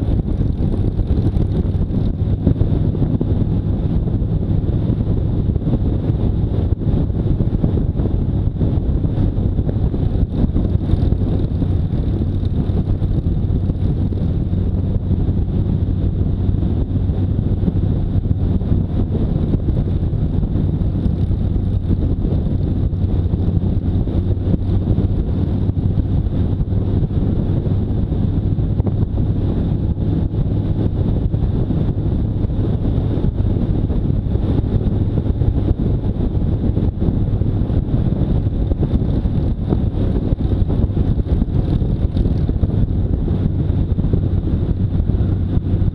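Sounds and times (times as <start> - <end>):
motorcycle engine running: 0.0 - 45.9
wind noise on microphone: 0.0 - 45.9.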